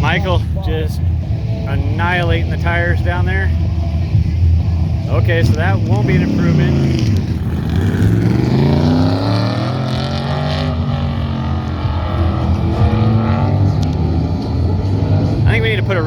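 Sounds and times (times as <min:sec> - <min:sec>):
truck engine at full throttle: 0:00.0 - 0:16.0.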